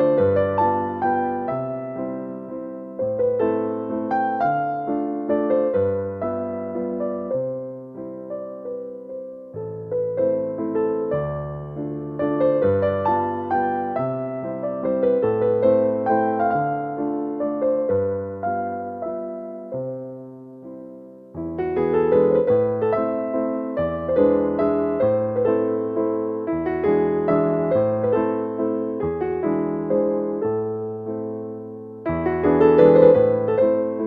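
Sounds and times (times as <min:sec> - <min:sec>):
slow gentle piano music: 0:00.0 - 0:34.0.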